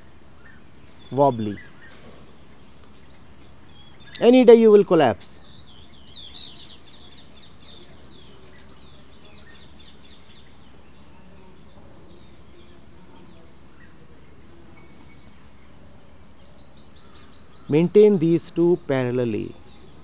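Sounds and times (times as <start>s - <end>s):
outdoor background hiss: 0.0s - 20.0s
small birds chirping: 0.0s - 20.0s.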